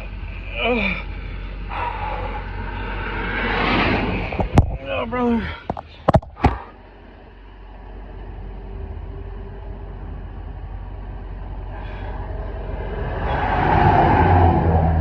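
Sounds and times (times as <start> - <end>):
vehicle engine and tyre noise: 0.0 - 15.0.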